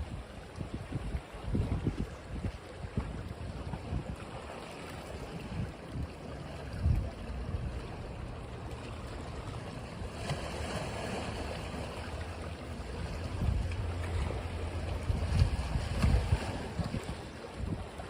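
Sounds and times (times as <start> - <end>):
wind buffeting microphone: 0.0 - 9.5, 11.4 - 18.0
ocean waves washing onto beach: 0.0 - 18.0.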